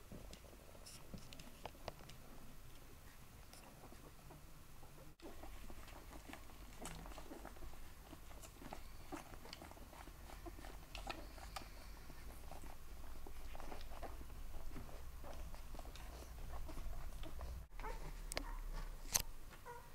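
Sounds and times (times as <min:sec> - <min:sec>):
puppies suckling clicks and smacks: 0:00.1 - 0:19.8.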